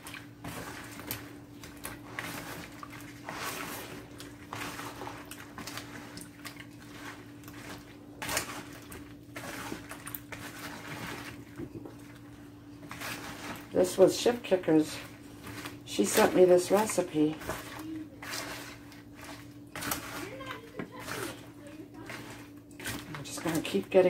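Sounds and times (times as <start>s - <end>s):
spatula swishing in wet brine: 0.0s - 24.0s.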